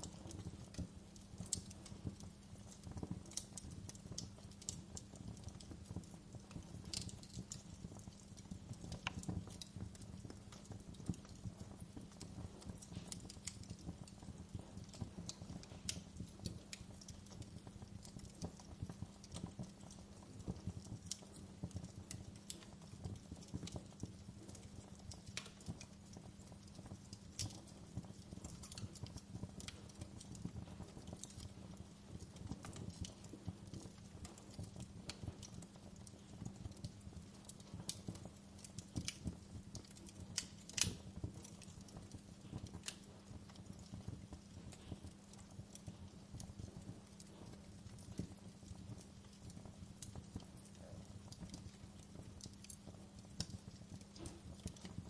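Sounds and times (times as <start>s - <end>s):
fire crackling and snapping: 0.0s - 55.0s
fire flames rumbling: 0.0s - 55.0s.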